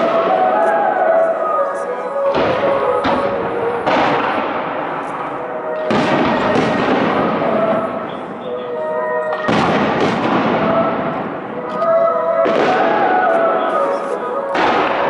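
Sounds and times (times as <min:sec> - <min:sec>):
fireworks bangs: 0:00.0 - 0:15.0
fireworks crackle and rumble: 0:00.0 - 0:15.0.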